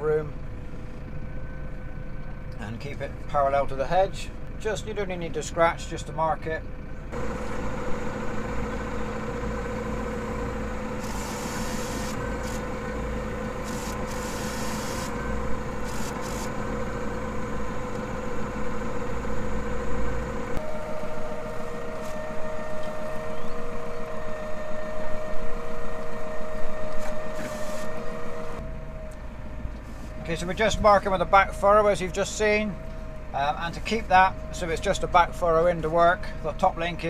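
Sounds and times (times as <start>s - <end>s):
tractor engine running: 0.0s - 37.0s
high steady whine: 7.1s - 37.0s.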